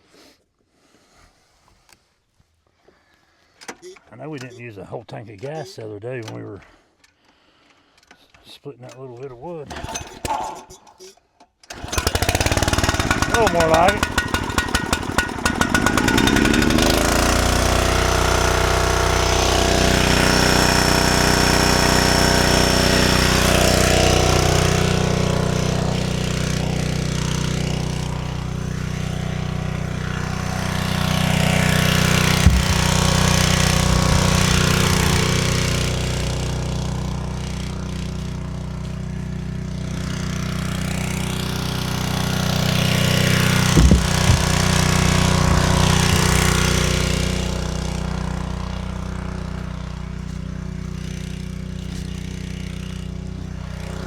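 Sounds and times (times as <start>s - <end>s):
small gasoline engine running: 9.7s - 10.9s, 11.7s - 54.0s.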